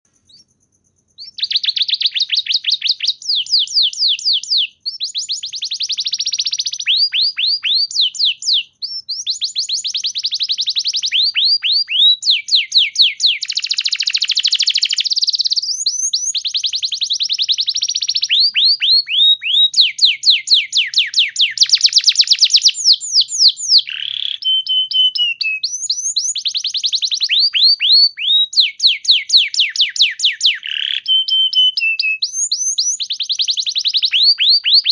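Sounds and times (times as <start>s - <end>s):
canary singing trilled song: 0.0s - 34.9s.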